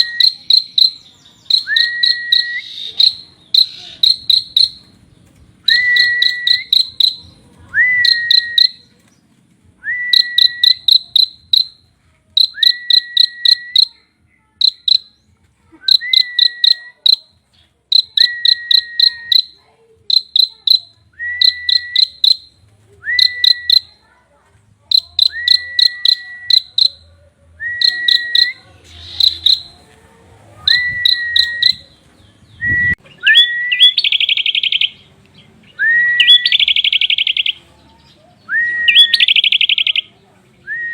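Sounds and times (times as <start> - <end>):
buzzy bird trill: 0.0 - 5.0, 5.6 - 8.9, 10.0 - 24.1, 24.8 - 27.1, 27.7 - 29.8, 30.6 - 32.0, 32.9 - 35.1, 36.1 - 38.0, 38.7 - 40.1
bird singing: 0.0 - 24.1, 24.9 - 29.9, 30.6 - 40.9.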